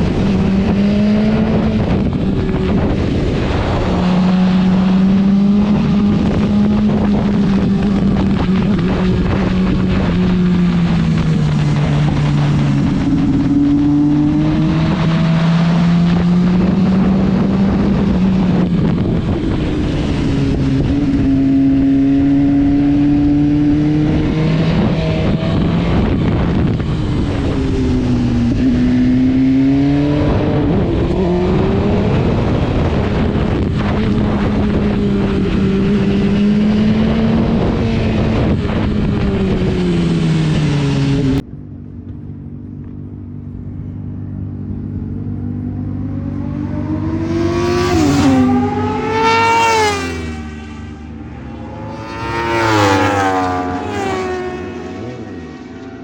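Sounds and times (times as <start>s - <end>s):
wind rush: 0.0s - 41.5s, 45.5s - 56.0s
motorcycle engine revving: 0.0s - 42.0s, 42.8s - 56.0s.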